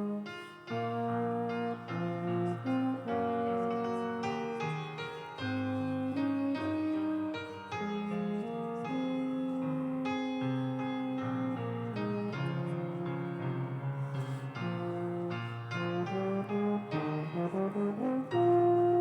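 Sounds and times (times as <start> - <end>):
slow keyboard chords: 0.0 - 19.0.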